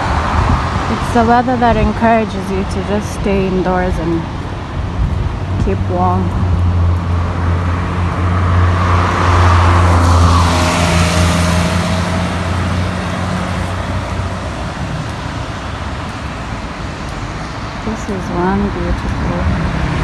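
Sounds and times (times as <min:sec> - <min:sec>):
tyres hissing on wet road: 0:00.0 - 0:20.0
vehicle engine hum: 0:00.0 - 0:20.0.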